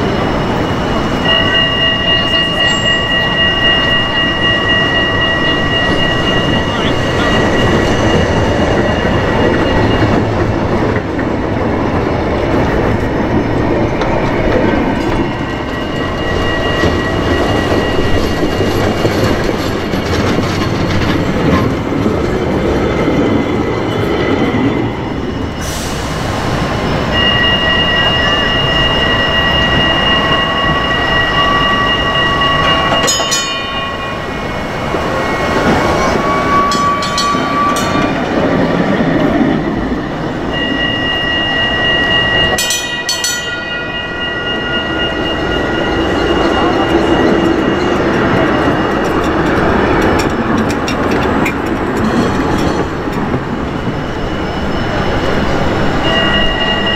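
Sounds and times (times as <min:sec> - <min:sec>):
high wheel squeal: 0:00.0 - 0:56.9
tram wheels rumbling on rails: 0:00.0 - 0:56.9.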